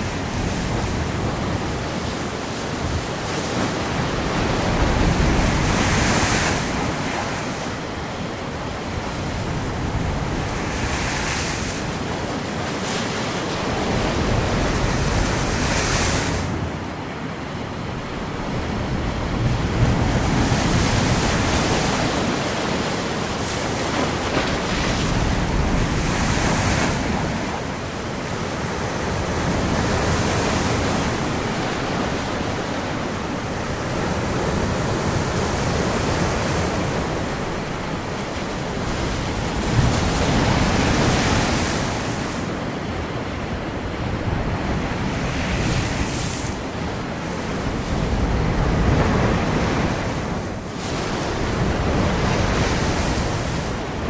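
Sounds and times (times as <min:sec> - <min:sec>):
waves breaking: 0:00.0 - 0:54.0.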